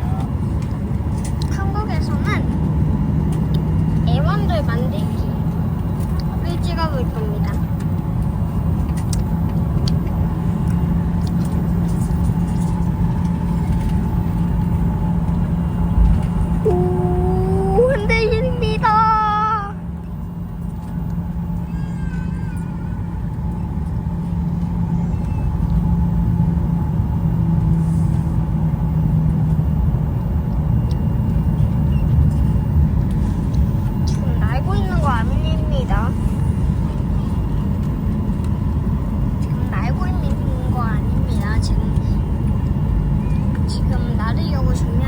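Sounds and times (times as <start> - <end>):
airliner engines rumbling: 0.0 - 45.0
low cabin hum: 0.0 - 45.0.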